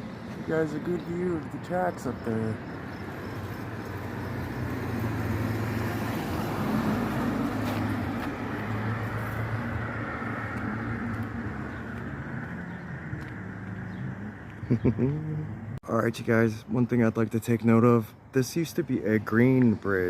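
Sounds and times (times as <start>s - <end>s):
road noise: 0.0s - 20.0s
traffic engine hum: 0.0s - 20.0s.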